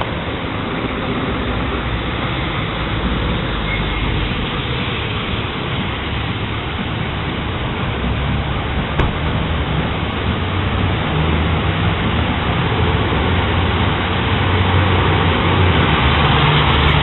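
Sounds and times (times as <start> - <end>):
heavy rain rushing: 0.0 - 17.0.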